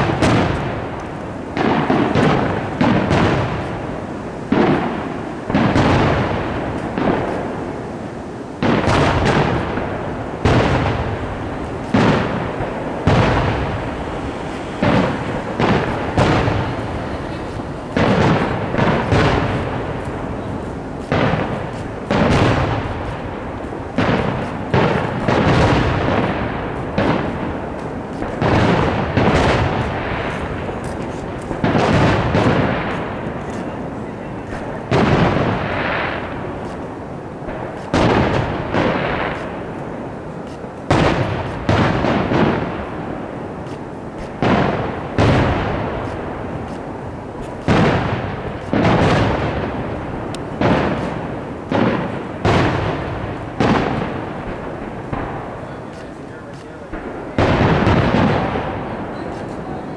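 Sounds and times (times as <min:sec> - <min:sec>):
fireworks booming: 0:00.0 - 0:59.9.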